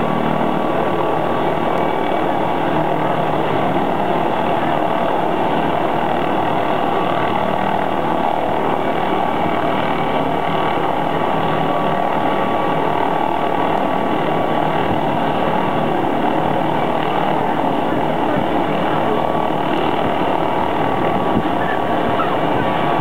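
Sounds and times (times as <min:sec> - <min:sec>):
helicopter rotor turning: 0:00.0 - 0:23.0
turbine whine: 0:00.0 - 0:23.0.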